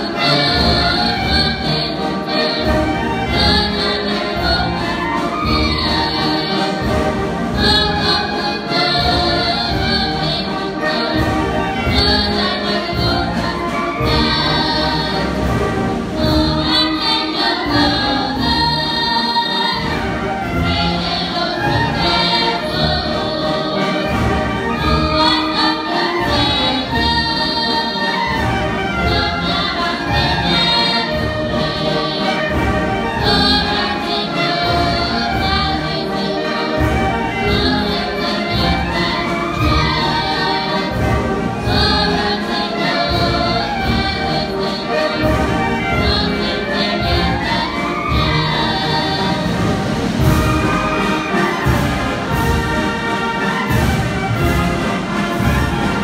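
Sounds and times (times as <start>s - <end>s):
wind band playing: 0.0s - 56.0s.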